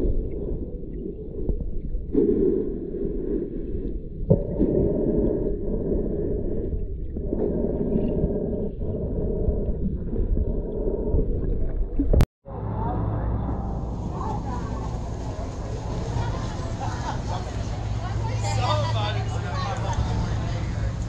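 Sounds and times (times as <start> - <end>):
underwater rumble and gurgling: 0.0 - 18.5.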